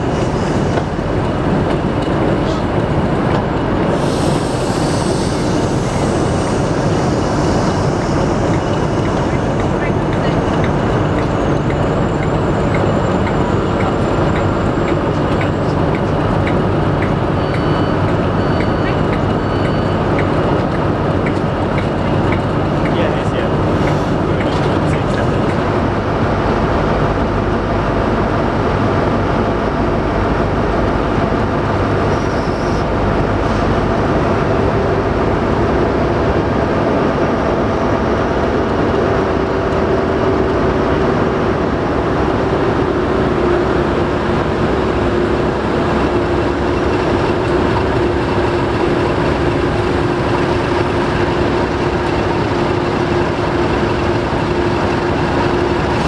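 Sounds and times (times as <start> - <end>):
diesel locomotives idling: 0.0 - 56.0.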